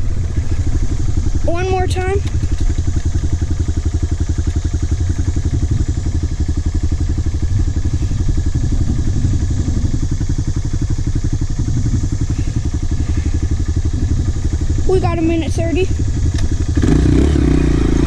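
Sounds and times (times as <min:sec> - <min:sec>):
dirt bike engine idling: 0:00.0 - 0:18.0.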